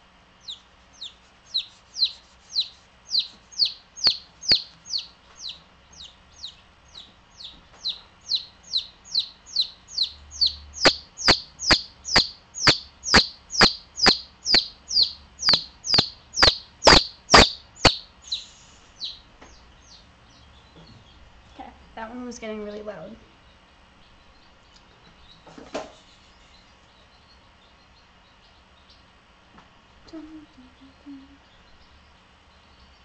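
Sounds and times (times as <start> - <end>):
baby chick peeping: 0.0 - 33.0.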